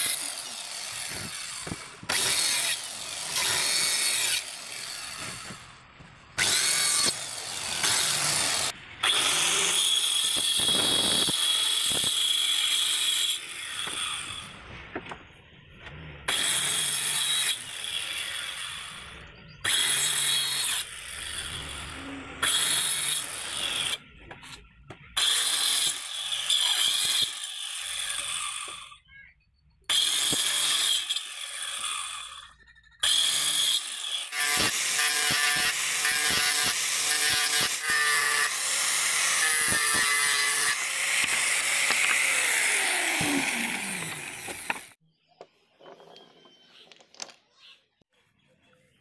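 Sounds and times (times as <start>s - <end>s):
electric saw whining through wood: 0.0s - 24.6s, 29.9s - 45.0s.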